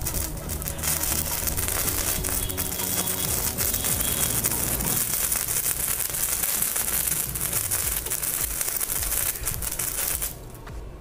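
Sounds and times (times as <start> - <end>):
welding arc crackling and sizzling: 0.0 - 10.7.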